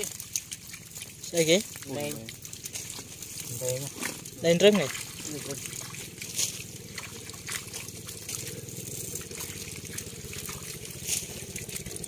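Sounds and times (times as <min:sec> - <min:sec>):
fish flapping in water: 0:00.0 - 0:12.0
steady low hum: 0:00.0 - 0:12.0
water splashing and trickling: 0:00.0 - 0:12.0.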